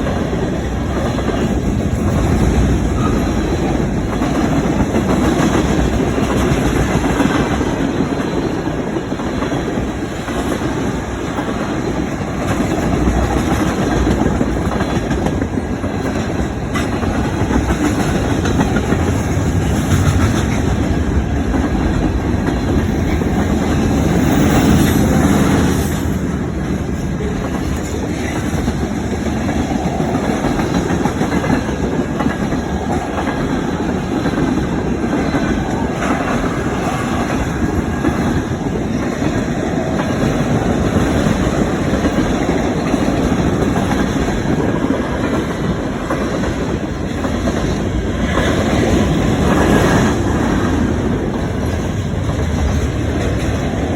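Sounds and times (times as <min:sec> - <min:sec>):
freight train rumbling on rails: 0:00.0 - 0:53.9.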